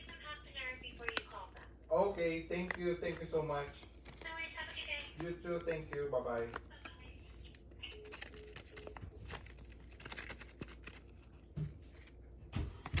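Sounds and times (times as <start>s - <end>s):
packaging rustling: 0.0s - 12.2s.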